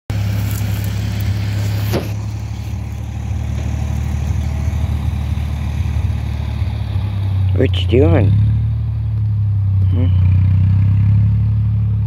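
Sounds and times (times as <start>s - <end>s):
low engine-like drone: 0.1s - 12.0s.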